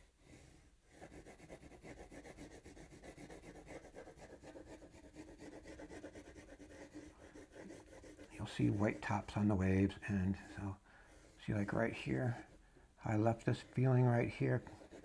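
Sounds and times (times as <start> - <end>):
pencil scribbling on paper: 0.3 - 15.0.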